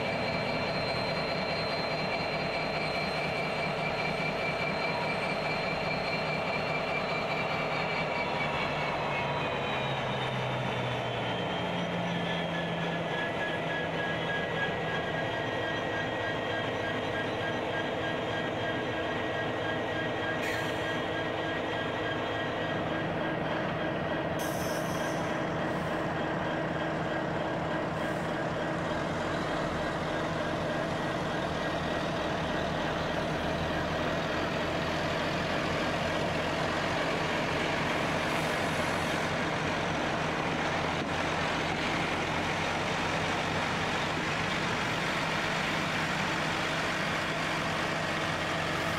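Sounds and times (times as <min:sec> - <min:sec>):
diesel locomotives idling: 0:00.0 - 0:48.9
truck diesel engine: 0:00.0 - 0:48.9.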